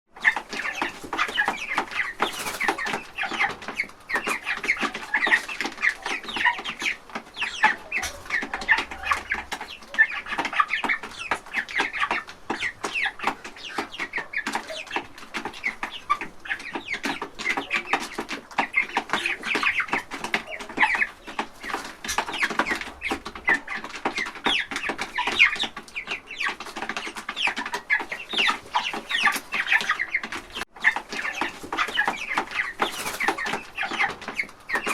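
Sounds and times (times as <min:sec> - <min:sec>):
chickens clucking: 0:00.1 - 0:34.9
scratching: 0:00.2 - 0:34.9.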